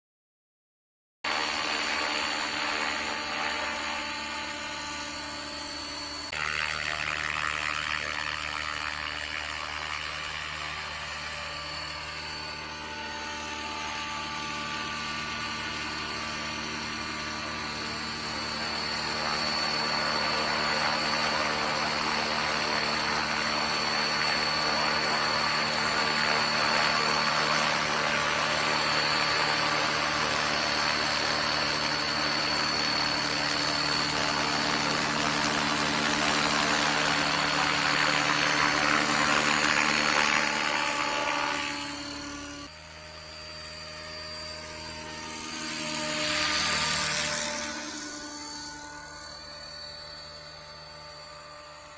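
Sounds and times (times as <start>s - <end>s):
model helicopter rotor whine: 1.3s - 51.9s.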